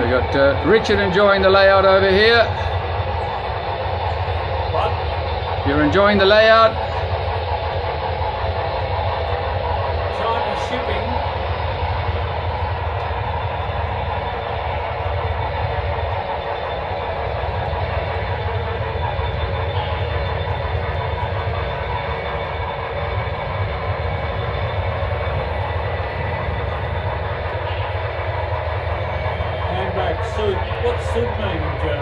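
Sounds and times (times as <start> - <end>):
model train running noise: 0.0 - 32.0.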